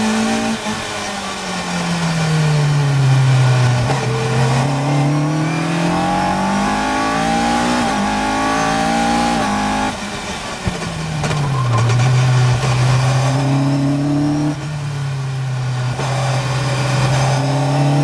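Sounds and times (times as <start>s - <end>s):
race car engine revving: 0.0s - 10.1s, 10.8s - 18.0s.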